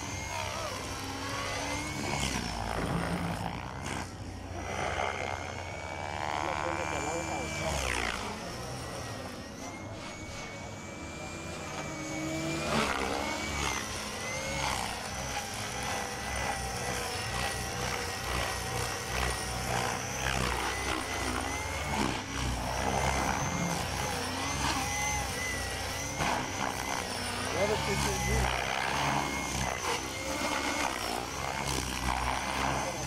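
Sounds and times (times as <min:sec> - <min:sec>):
rc helicopter motor whine: 0:00.0 - 0:33.0
rotor blades whooshing: 0:00.0 - 0:33.0.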